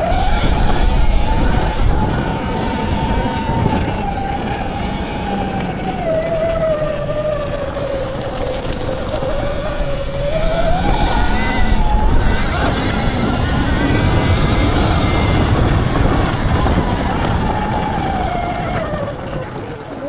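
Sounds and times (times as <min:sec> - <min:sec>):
electric motor whining: 0:00.0 - 0:20.0
tyre and wind rumble: 0:00.0 - 0:20.0.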